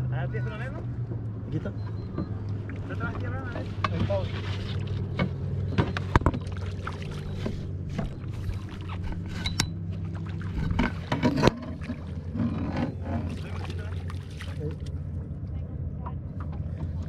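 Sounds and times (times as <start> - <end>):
boat motor idling: 0.0 - 17.0
knocks and clatters on boat: 0.7 - 17.0.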